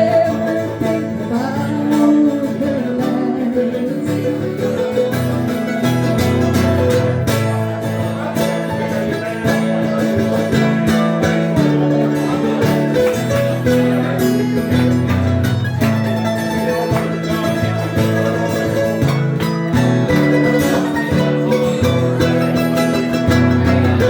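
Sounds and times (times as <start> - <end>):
acoustic guitar and plucked strings: 0.0 - 24.0.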